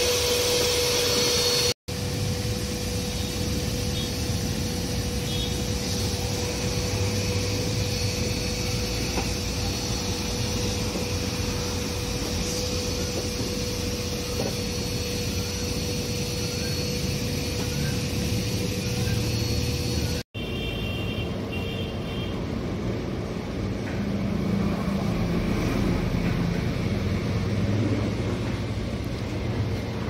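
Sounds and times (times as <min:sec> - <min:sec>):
motor hum with high whine: 0:00.0 - 0:30.0
road traffic: 0:00.0 - 0:30.0.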